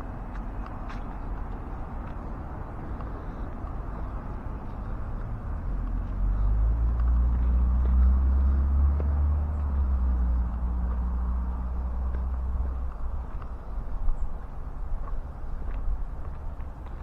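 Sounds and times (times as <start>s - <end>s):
passing vehicle engine rumble: 0.0s - 17.0s.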